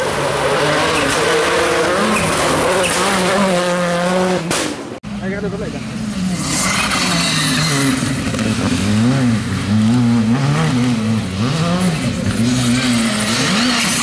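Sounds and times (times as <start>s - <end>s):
rally car engine revving: 0.0s - 5.0s, 5.8s - 14.0s.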